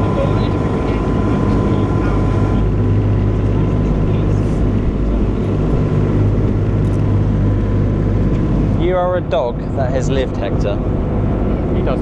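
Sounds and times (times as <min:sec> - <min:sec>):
ferry engine drone: 0:00.0 - 0:12.0
wind: 0:00.0 - 0:12.0.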